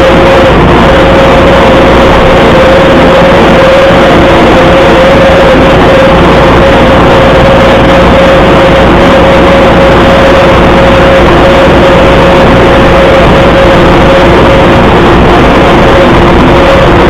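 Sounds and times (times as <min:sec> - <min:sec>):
constant whine: 0:00.0 - 0:17.0
tractor diesel engine running: 0:00.0 - 0:17.0.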